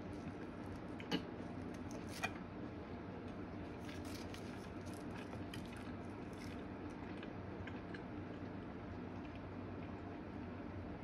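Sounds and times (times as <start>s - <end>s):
crackling of crisp food handled: 0.0s - 10.5s
steady low hum: 0.0s - 11.0s.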